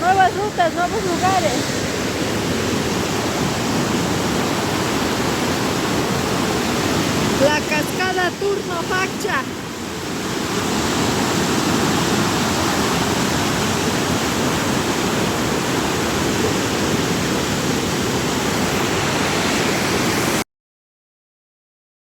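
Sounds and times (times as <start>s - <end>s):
waterfall rushing: 0.0s - 20.4s.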